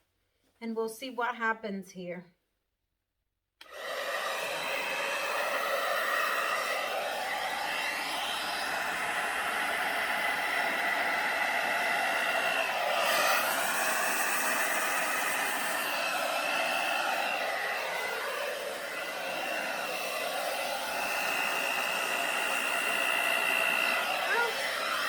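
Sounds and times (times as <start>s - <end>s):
hair dryer running: 3.6s - 25.0s.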